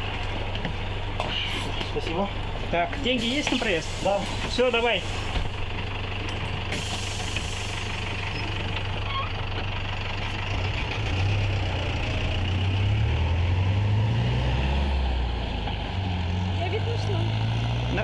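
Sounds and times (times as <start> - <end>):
bus engine idling and accelerating: 0.0 - 18.0.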